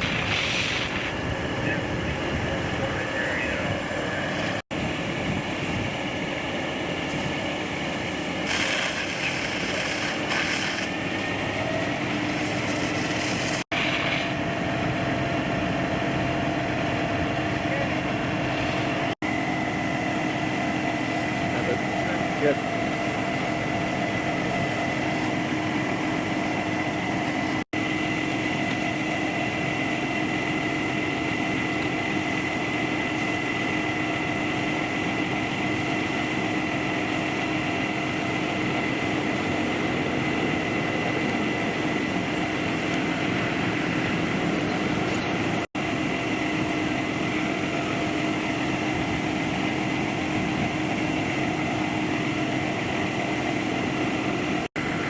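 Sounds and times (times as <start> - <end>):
machine droning with hum and whine: 0.0 - 55.0.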